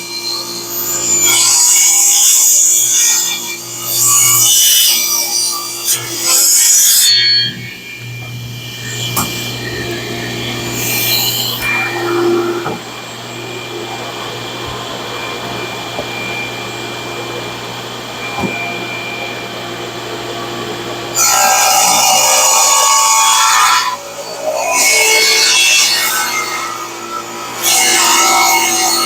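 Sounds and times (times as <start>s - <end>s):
table saw cutting wood: 0.0s - 29.0s.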